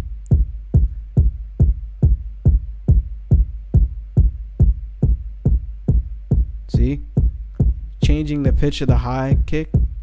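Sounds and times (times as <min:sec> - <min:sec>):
electronic kick drum: 0:00.0 - 0:10.0.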